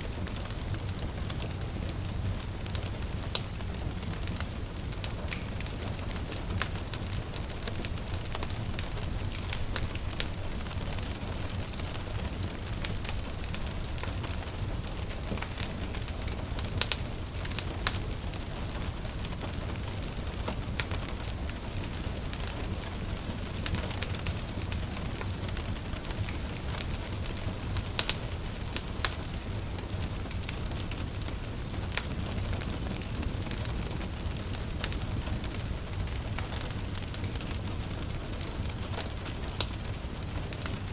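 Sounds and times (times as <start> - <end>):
gentle rain patter: 0.0 - 40.9
wood fire crackling and popping: 0.0 - 40.9.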